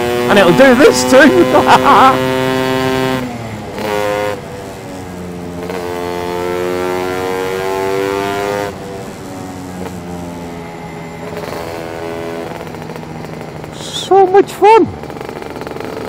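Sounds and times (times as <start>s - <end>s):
scooter engine accelerating: 0.0s - 16.0s.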